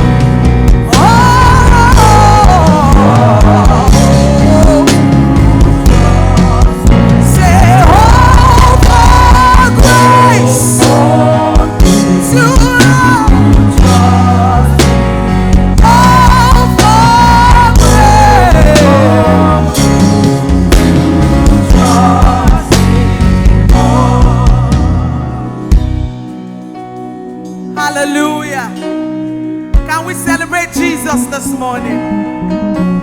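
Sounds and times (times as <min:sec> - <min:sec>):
sliding melodic lead line: 0:00.0 - 0:33.0
worship band playing: 0:00.0 - 0:33.0.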